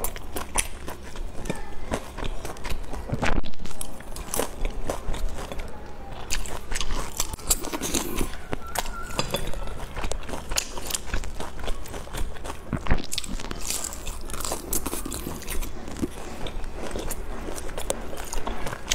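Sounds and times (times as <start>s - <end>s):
crunching and clicking while eating: 0.0s - 18.9s
person chewing dumplings: 0.0s - 18.9s.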